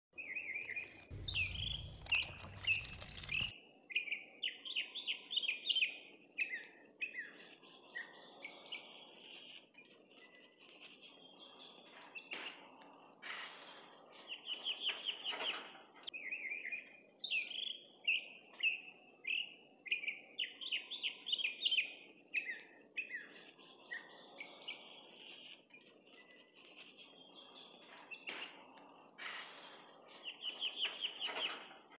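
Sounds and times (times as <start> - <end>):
songbirds chirping and singing: 0.2 - 32.0.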